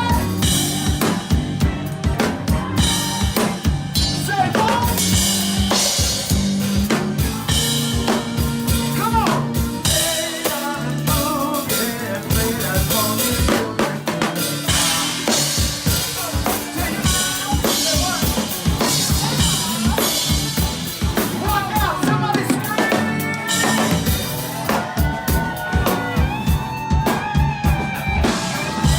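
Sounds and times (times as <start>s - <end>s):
drum kit beat: 0.0s - 28.9s
live rock band: 0.0s - 28.9s.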